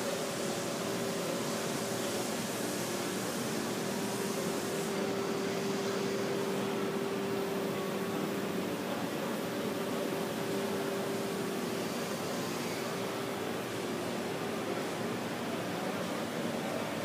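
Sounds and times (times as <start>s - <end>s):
hall background hum and hiss: 0.0s - 17.0s.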